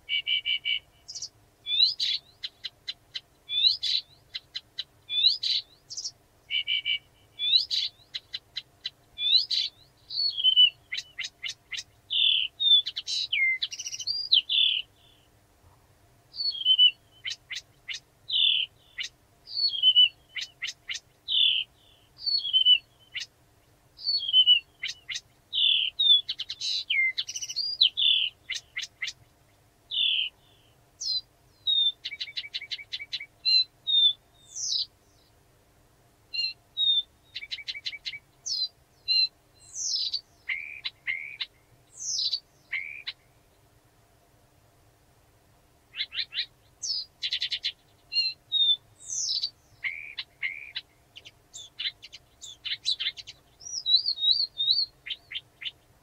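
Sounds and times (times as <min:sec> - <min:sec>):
warbler singing: 0:00.0 - 0:15.4, 0:16.3 - 0:35.4, 0:36.3 - 0:43.7, 0:45.9 - 0:56.0.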